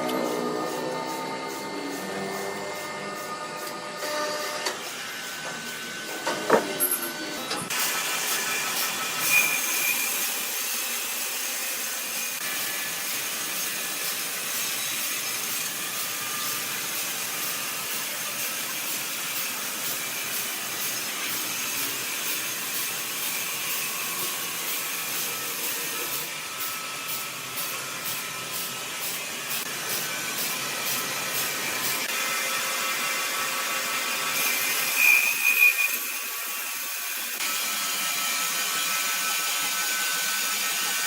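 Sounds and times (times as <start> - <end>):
saw cutting wood: 0.0 - 41.0.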